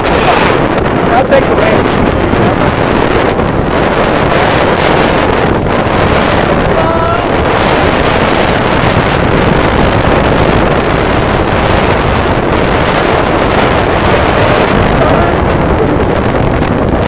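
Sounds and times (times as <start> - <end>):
strong wind on microphone: 0.0 - 17.0
water rushing past hull: 0.0 - 17.0.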